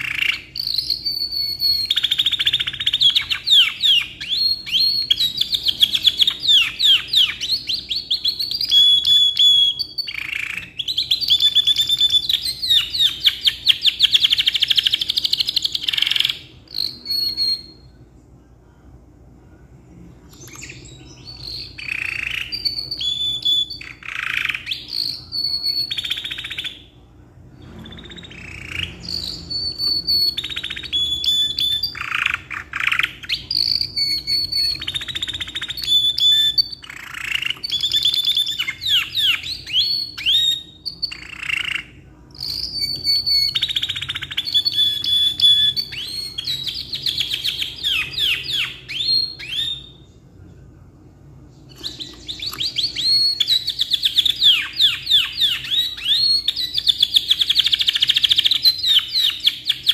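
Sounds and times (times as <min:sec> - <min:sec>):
canary singing trills: 0:00.0 - 0:18.1, 0:20.2 - 0:27.0, 0:27.6 - 0:50.1, 0:51.7 - 0:59.9.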